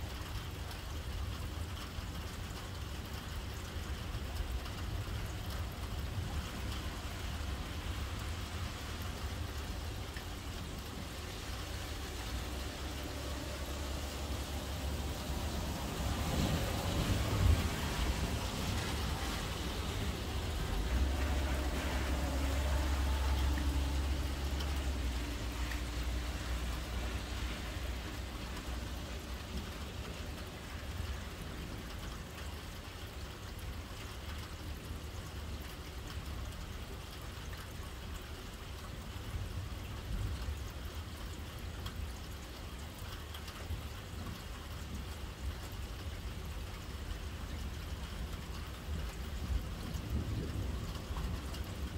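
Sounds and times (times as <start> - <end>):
rain pattering: 0.0 - 51.9.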